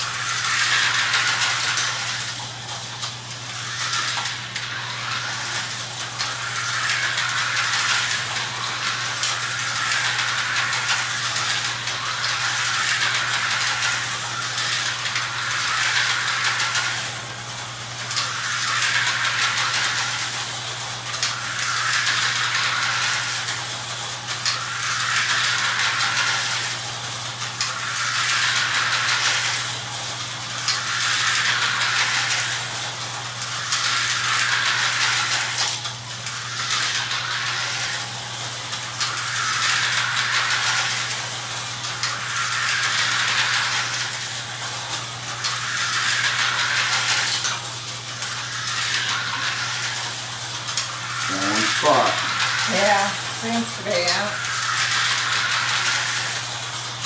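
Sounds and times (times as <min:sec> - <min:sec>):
slot car motors whirring: 0:00.0 - 0:57.0.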